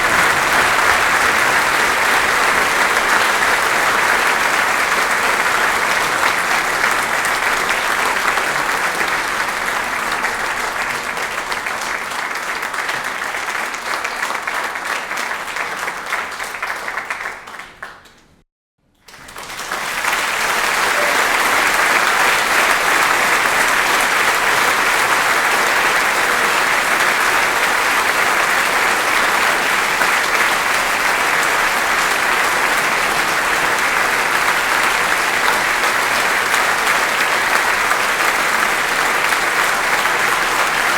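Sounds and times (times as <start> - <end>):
audience applauding: 0.0 - 18.4, 19.0 - 40.9.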